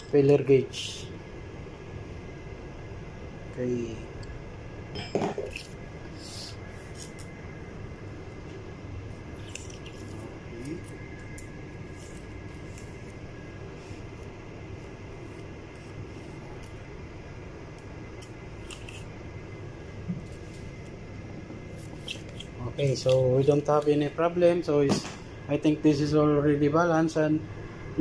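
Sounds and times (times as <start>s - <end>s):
steady room hum: 0.0s - 28.0s.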